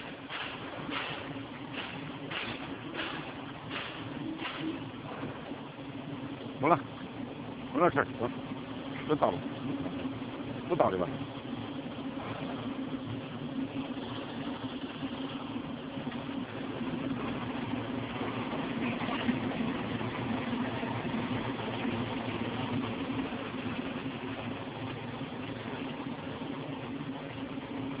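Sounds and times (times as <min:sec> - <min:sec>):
vibrating screen machine hum: 0:00.0 - 0:28.0.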